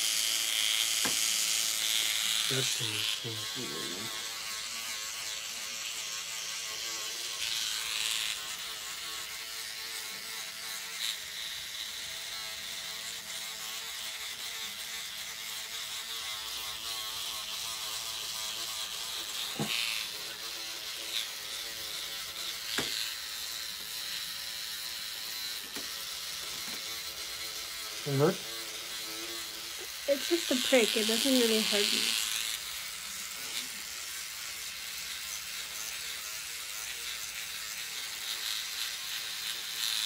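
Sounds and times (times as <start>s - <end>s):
microneedling pen buzzing: 0.0s - 40.0s.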